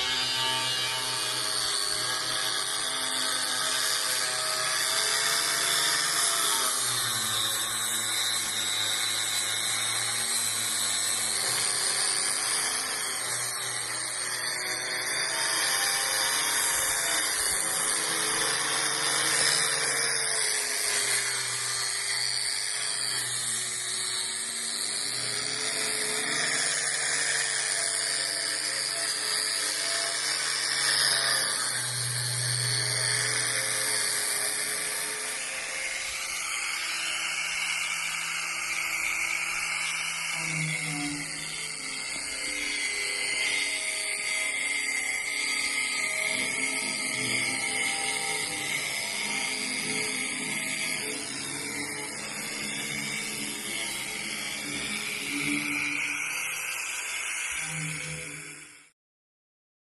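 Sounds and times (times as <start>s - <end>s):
handheld power tool running: 0.0s - 59.0s.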